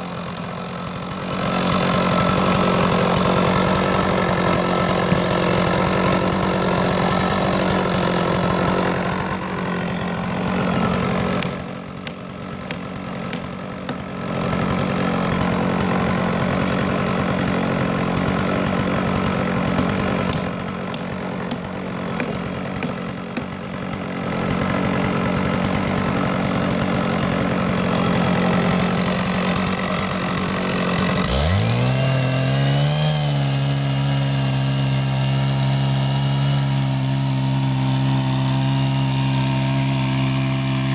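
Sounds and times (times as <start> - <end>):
chainsaw engine cutting log: 0.0 - 40.9.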